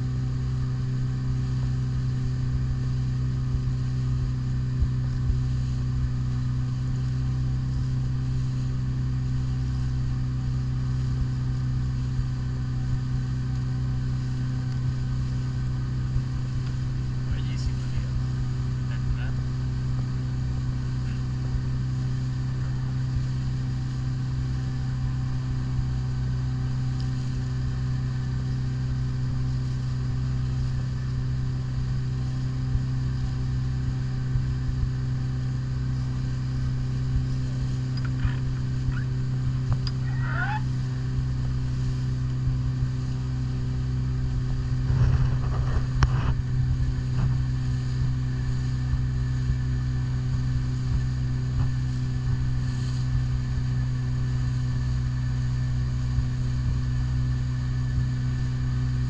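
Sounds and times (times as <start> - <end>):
outboard motor humming: 0.0 - 59.0.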